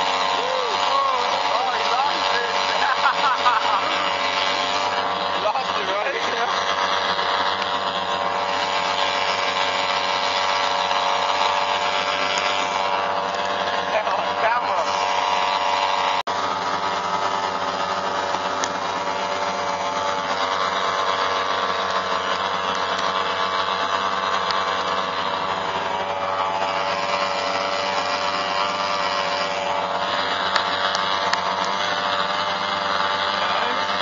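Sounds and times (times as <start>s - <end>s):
outboard motors buzzing: 0.0s - 34.0s.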